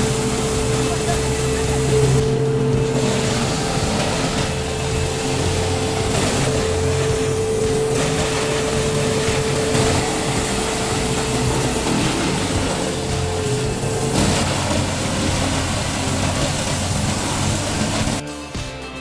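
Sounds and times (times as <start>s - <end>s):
heavy machine engine running: 0.0s - 18.2s.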